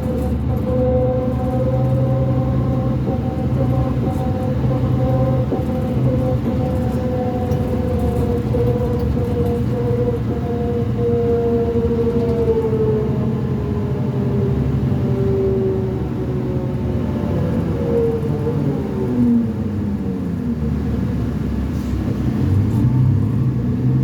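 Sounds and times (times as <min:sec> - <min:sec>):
bus diesel engine rumbling: 0:00.0 - 0:24.0.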